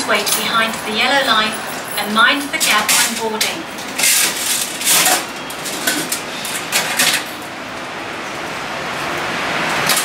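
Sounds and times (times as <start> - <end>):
light rail running noise: 0.0 - 10.0.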